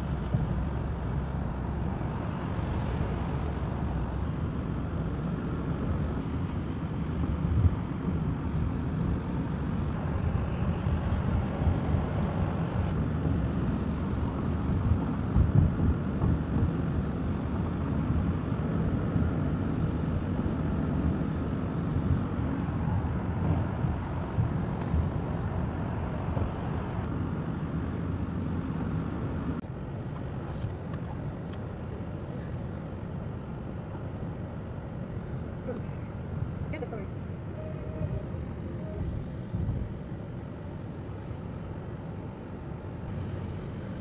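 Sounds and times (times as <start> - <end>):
road and tyre noise in car: 0.0 - 44.0.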